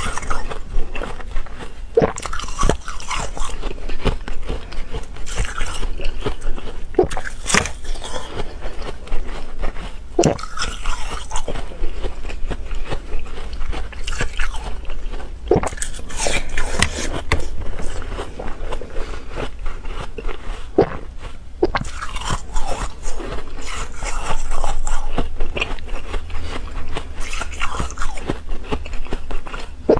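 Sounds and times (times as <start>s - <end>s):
chewing ice crunching: 0.0s - 29.9s.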